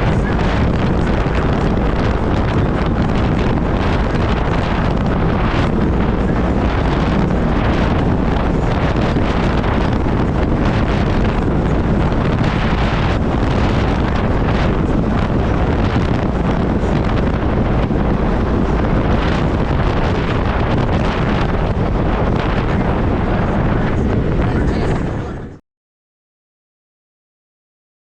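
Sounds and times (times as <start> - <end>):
vehicle running: 0.0 - 25.6
wind buffeting microphone: 0.0 - 25.6.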